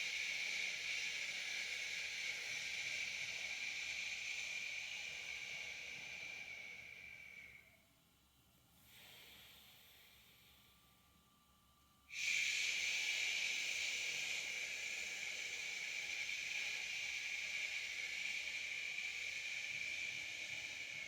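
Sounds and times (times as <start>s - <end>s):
person breathing out a hissing shh: 0.0s - 7.8s, 8.8s - 11.0s, 12.1s - 21.0s.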